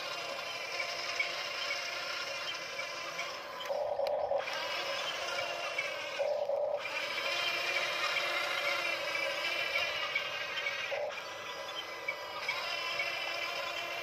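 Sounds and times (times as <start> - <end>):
toy excavator motors whirring: 0.0 - 14.0.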